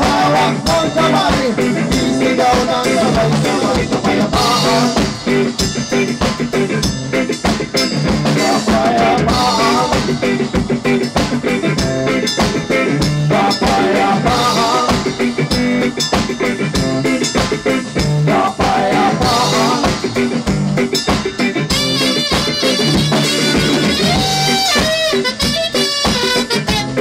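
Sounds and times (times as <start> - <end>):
live reggae band: 0.0 - 27.0.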